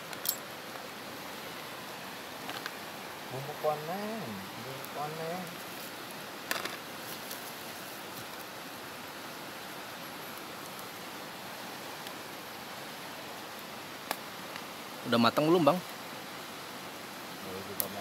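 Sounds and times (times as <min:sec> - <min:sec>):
fast-flowing river rushing: 0:00.0 - 0:18.0.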